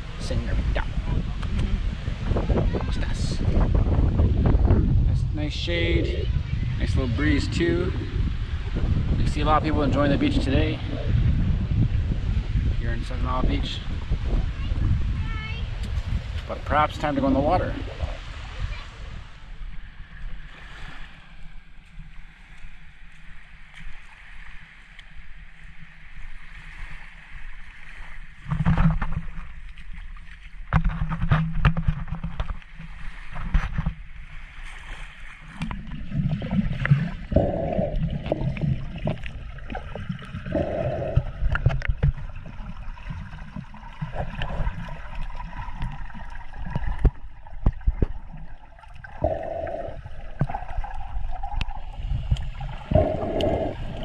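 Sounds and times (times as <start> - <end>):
seawater sloshing and gurgling: 0.0 - 54.0.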